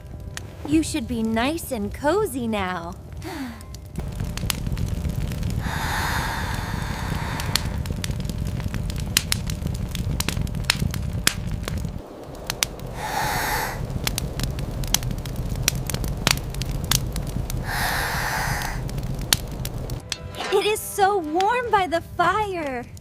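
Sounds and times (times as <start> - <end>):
low rumble: 0.0 - 23.0
wood fire crackling and popping: 0.0 - 23.0.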